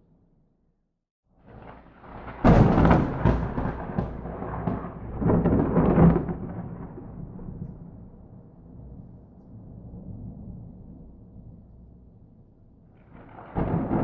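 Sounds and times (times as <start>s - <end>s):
thunderclap: 1.4s - 11.7s, 13.0s - 14.0s
thunder rumbling: 1.5s - 12.1s, 13.0s - 14.0s.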